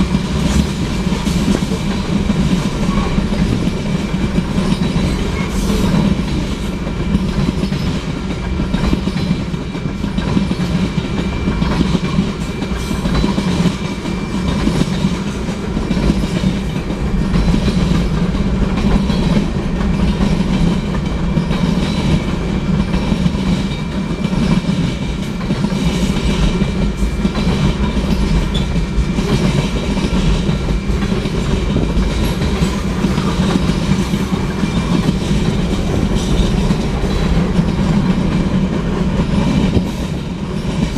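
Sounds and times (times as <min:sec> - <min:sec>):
train wheels rumbling on rail: 0:00.0 - 0:40.9
wheels clicking over rail joints: 0:00.0 - 0:40.9.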